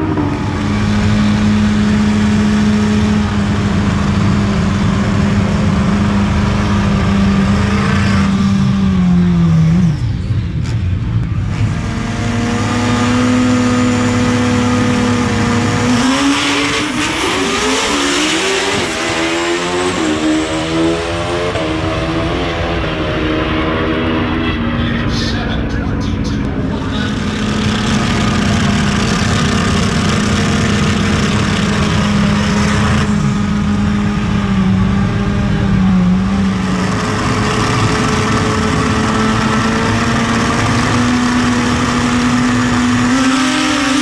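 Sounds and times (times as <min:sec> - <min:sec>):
motorcycle engines revving hard: 0:00.0 - 0:44.0.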